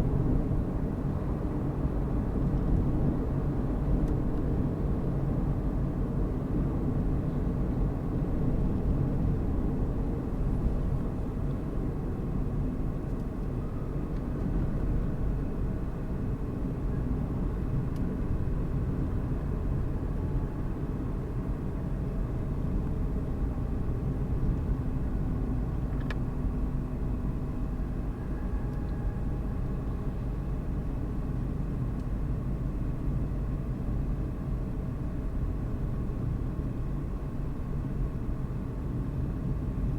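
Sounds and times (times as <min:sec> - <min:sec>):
faint engine hum: 0:00.0 - 0:39.9
road and tyre noise: 0:00.0 - 0:39.9.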